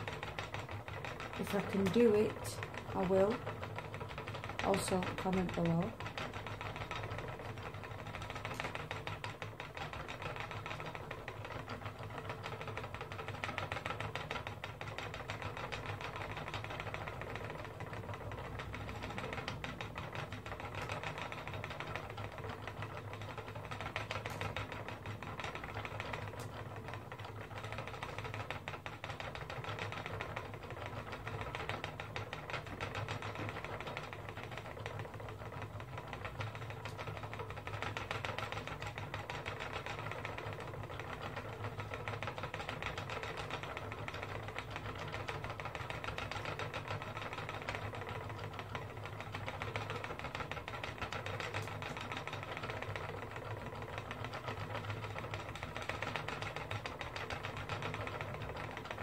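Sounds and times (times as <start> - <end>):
spinning wheel clicking whirr: 0.0 - 59.0.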